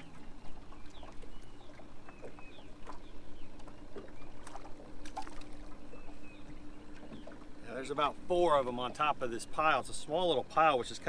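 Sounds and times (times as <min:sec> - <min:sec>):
faint steady hum: 0:00.0 - 0:11.0
water lapping against boat hull: 0:00.0 - 0:11.0.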